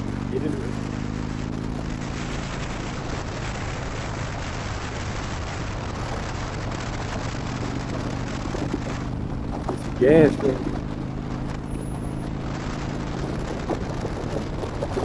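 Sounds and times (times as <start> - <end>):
motorcycle engine running: 0.0 - 15.0
wind rush on microphone: 1.1 - 15.0.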